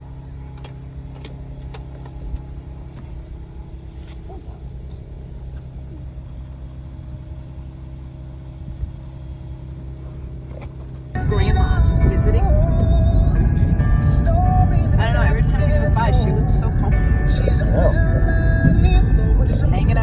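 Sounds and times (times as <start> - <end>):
car running low hum: 0.0 - 20.0.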